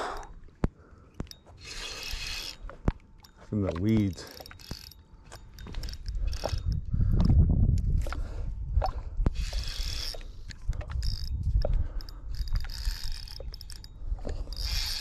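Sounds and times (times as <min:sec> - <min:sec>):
fishing reel clicking and whirring: 0:01.2 - 0:08.4, 0:09.2 - 0:15.0.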